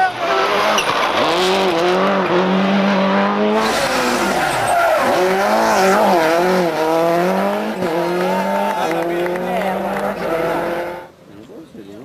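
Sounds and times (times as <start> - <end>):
rally car engine revving: 0.0 - 11.1.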